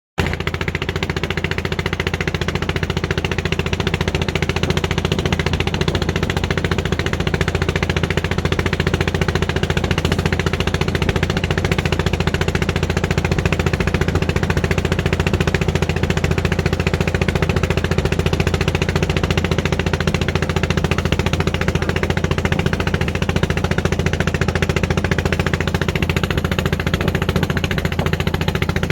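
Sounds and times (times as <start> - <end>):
small engine running: 0.2 - 28.9.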